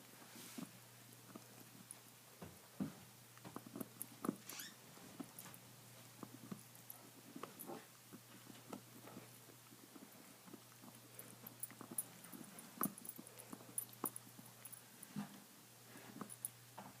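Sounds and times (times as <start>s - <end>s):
dog gnawing on a bone: 0.6s - 16.6s.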